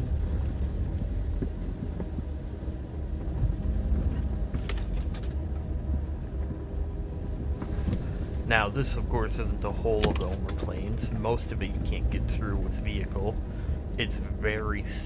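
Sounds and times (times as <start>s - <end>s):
car driving on dirt track: 0.0s - 15.0s.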